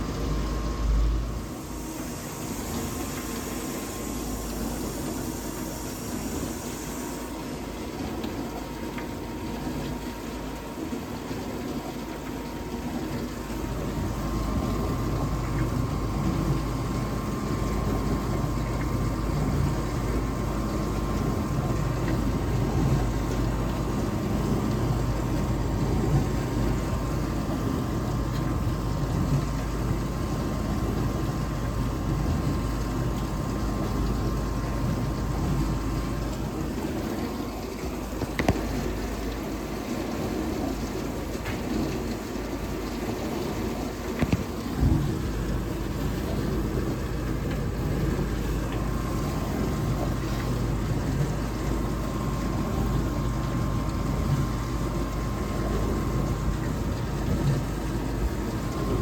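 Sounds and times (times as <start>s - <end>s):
dishwasher pump motor hum: 0.0s - 59.0s
thin steady whine: 0.0s - 59.0s
water churning: 0.0s - 59.0s.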